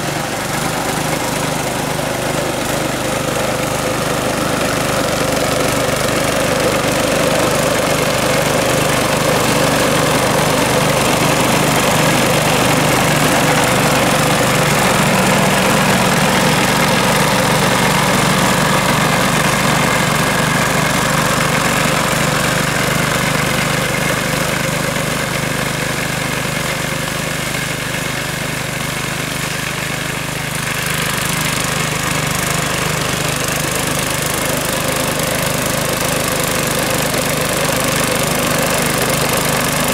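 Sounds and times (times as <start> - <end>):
lawn mower cutting grass: 0.0 - 39.9.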